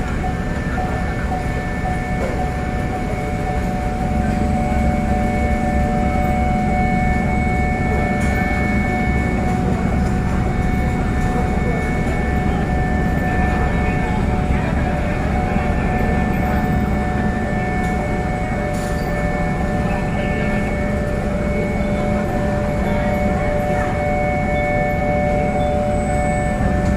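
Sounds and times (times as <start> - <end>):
engine whining tones: 0.0 - 26.9
ferry engines rumbling: 0.0 - 26.9.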